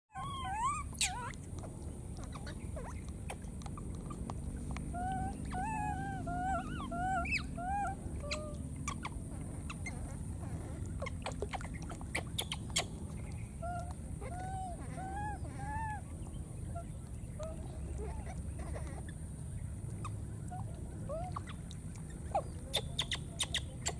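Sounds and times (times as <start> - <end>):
baby monkeys crying: 0.1 - 19.2, 20.0 - 23.9
low steady rumble: 0.1 - 23.9.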